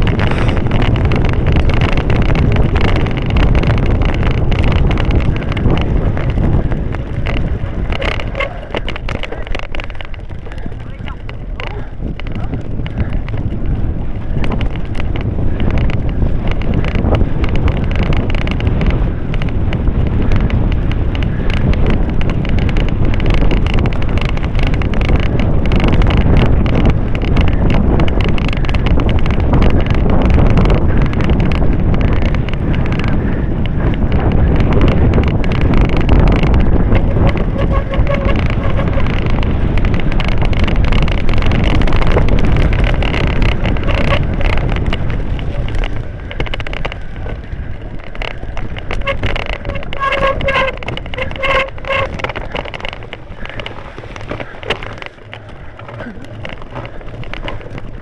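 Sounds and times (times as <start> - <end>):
bike clattering over rough ground: 0.0 - 58.0
wind buffeting microphone: 0.0 - 58.0.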